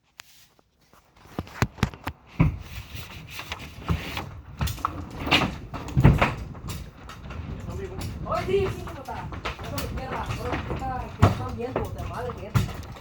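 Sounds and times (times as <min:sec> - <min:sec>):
rustling: 0:00.0 - 0:13.0
objects knocking and thumping: 0:01.0 - 0:13.0.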